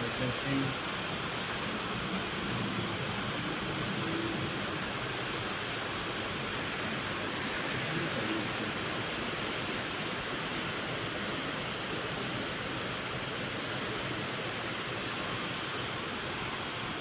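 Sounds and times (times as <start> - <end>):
steady phone line hiss: 0.0 - 17.0.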